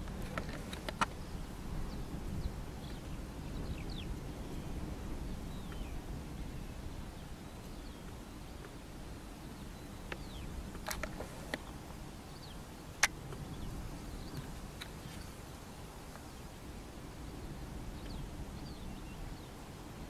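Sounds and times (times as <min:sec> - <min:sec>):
small birds chirping: 0:00.0 - 0:19.7.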